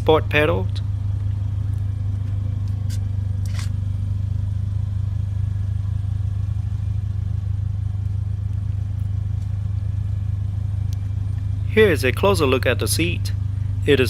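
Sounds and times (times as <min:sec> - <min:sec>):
engine idling drone: 0:00.0 - 0:14.0.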